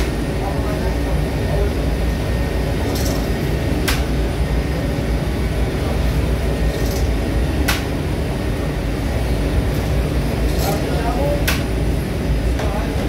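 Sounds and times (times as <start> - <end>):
machinery low rumble: 0.0 - 13.0.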